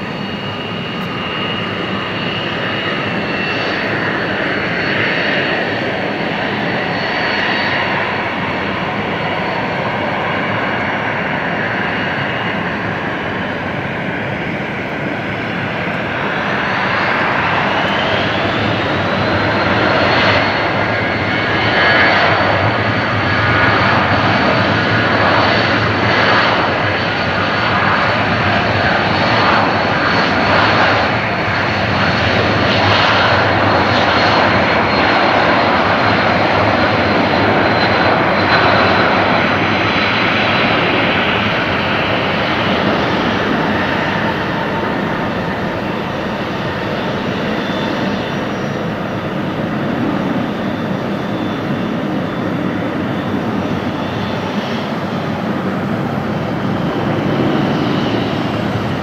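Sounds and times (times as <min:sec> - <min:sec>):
jet engines spooling up: 0:00.0 - 0:59.0
rising turbine whine: 0:00.0 - 0:59.0.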